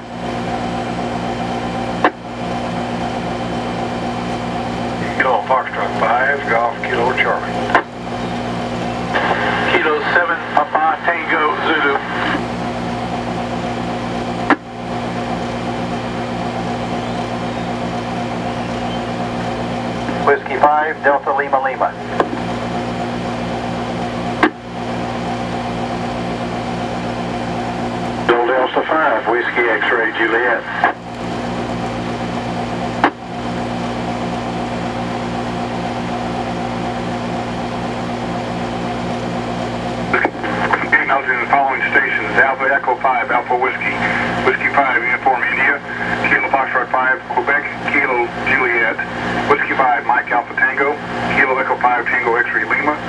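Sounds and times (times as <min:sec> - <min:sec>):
radio speaker hum and buzz: 0:00.0 - 0:53.0.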